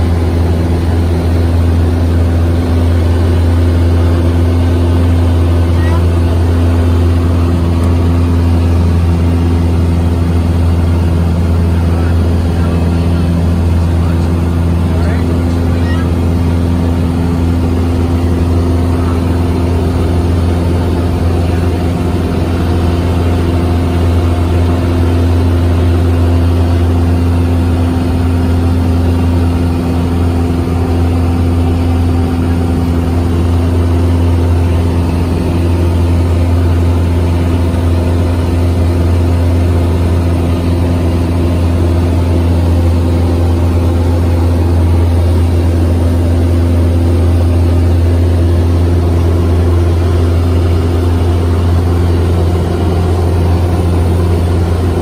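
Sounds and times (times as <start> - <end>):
airplane engine droning in cabin: 0.0 - 55.0.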